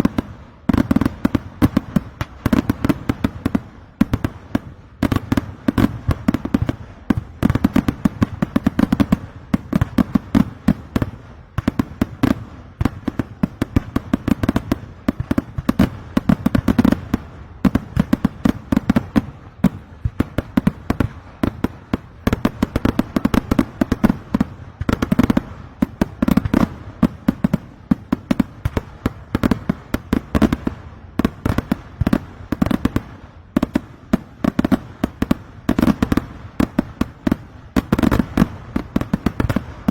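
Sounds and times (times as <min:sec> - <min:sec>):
firecracker explosions: 0:00.0 - 0:39.9.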